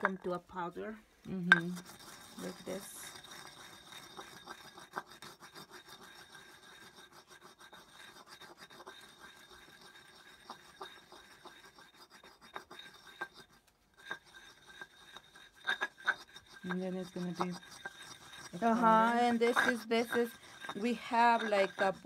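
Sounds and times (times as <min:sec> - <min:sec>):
stone pestle grinding in mortar: 0:00.0 - 0:22.0.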